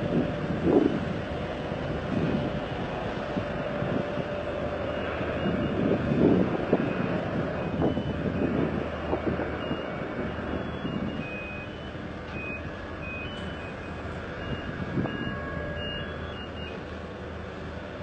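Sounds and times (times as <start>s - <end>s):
wind noise: 0.0s - 16.2s
reversing alarms beeping: 0.0s - 17.2s
low engine rumble: 0.0s - 18.0s.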